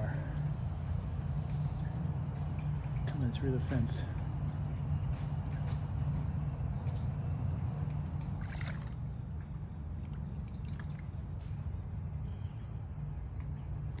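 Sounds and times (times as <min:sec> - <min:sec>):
faint drips: 0:00.0 - 0:14.0
steady low rumble: 0:00.0 - 0:14.0
water trickling: 0:00.0 - 0:14.0.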